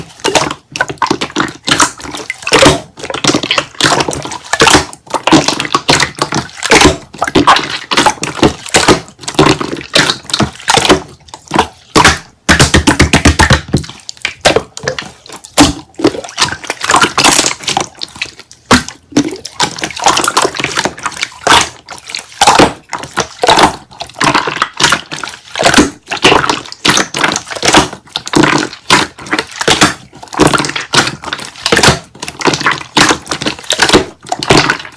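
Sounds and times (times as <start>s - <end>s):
slime squelching and popping: 0.0s - 34.9s.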